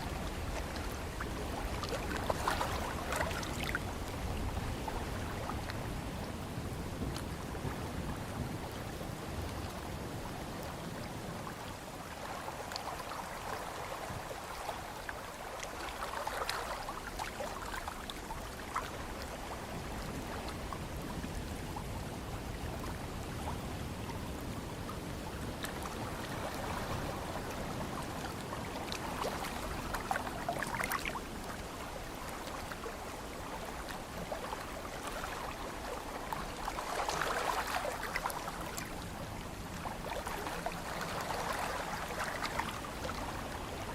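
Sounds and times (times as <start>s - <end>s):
ocean waves washing in: 0.0s - 43.9s.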